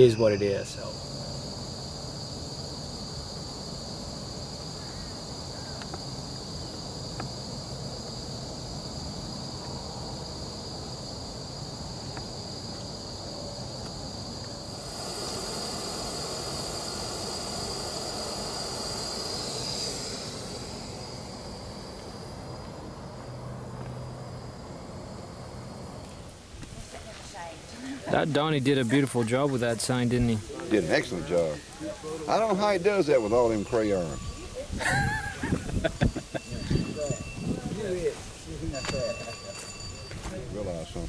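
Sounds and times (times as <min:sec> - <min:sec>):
loud hiss: 0:00.0 - 0:38.9
insects trilling: 0:00.0 - 0:41.0.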